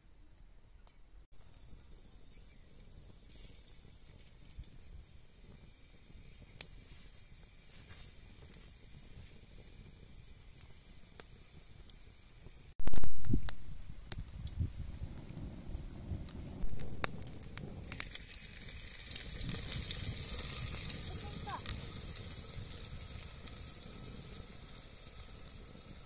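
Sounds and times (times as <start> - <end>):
wood fire crackling: 0.3 - 26.0.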